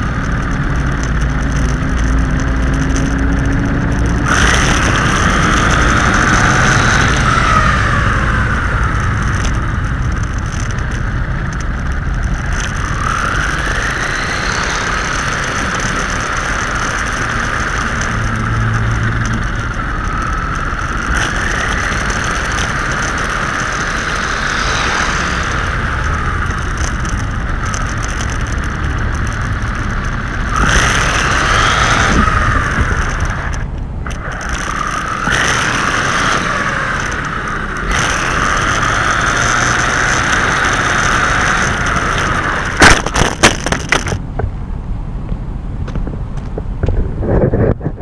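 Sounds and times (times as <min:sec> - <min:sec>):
toy truck motor whining: 0:00.0 - 0:44.2.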